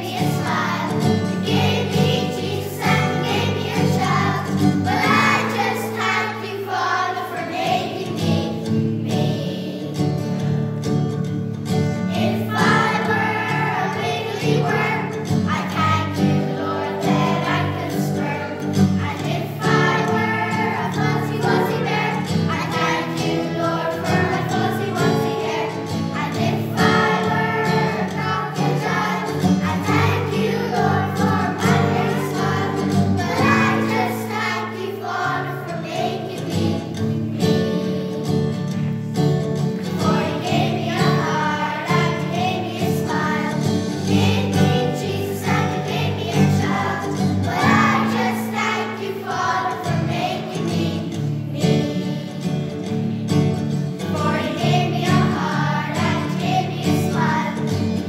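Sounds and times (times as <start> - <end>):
group of voices singing: 0.0 - 10.4, 12.0 - 38.9, 39.5 - 58.0.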